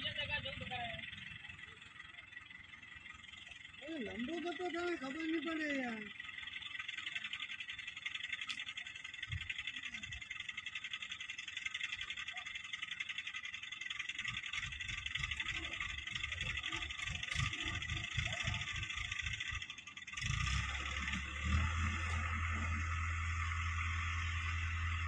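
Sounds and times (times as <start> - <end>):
crane diesel engine running: 0.0 - 25.0.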